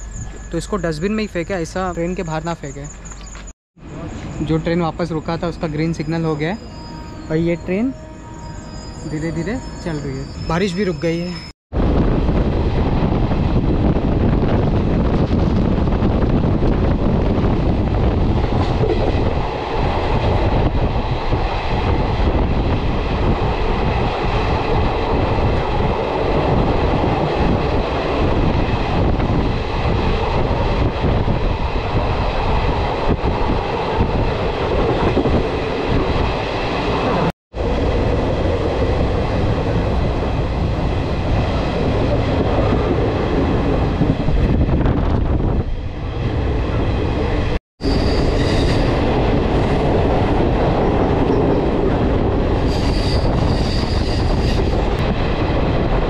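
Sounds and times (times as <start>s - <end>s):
train wheels rumbling on rails: 8.4s - 56.0s.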